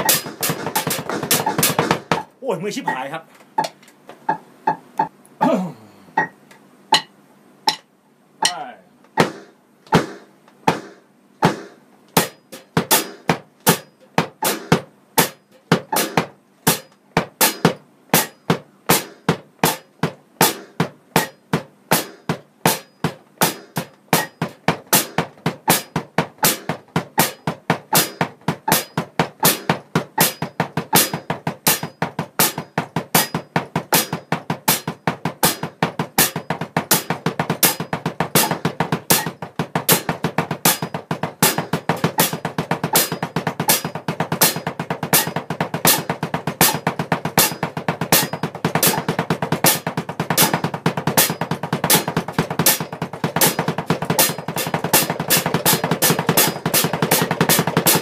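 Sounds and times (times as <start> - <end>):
electronic bass drum strikes: 0.0 - 2.3, 8.4 - 58.0.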